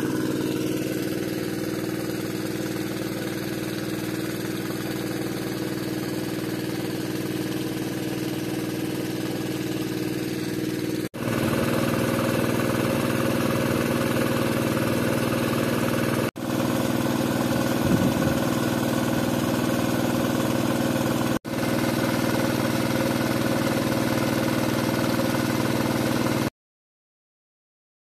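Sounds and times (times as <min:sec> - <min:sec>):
small petrol engine running: 0:00.0 - 0:26.5.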